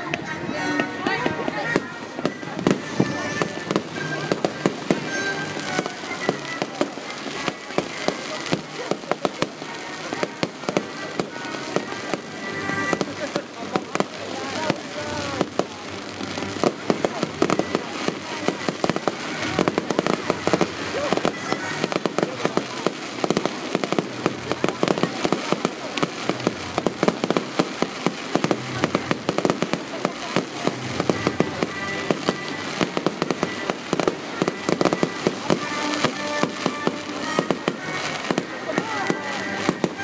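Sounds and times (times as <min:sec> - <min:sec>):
fireworks bangs and crackles: 0:00.0 - 0:40.0
music playing: 0:00.0 - 0:40.0.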